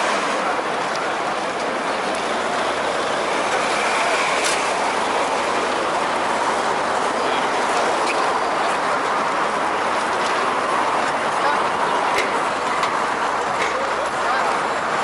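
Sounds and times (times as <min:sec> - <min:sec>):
heavy city traffic: 0:00.0 - 0:15.0.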